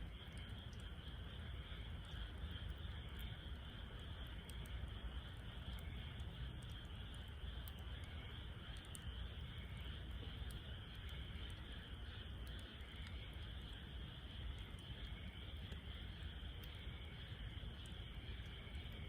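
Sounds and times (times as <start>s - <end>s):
fire crackling: 0.0s - 19.0s
low fire rumble: 0.0s - 19.0s.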